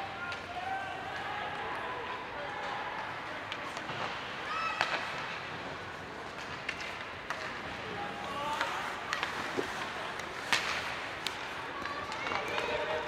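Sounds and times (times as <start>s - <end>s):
hockey sticks and puck clacking: 0.0s - 13.0s.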